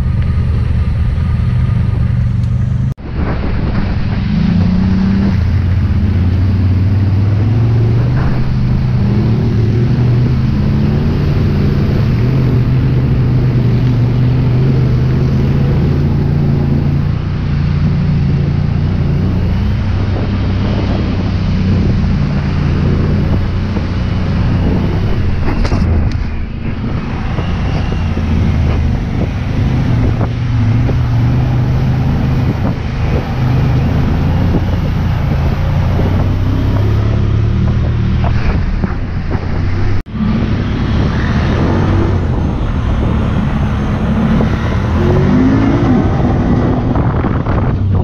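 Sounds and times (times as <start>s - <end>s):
off-road vehicle engines: 0.0s - 48.0s.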